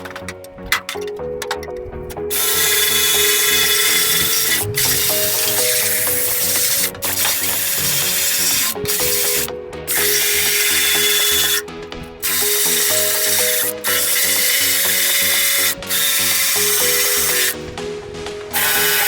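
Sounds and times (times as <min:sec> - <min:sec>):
background music: 0:00.0 - 0:19.0
power tool abrading steel: 0:02.1 - 0:17.7, 0:18.5 - 0:19.0.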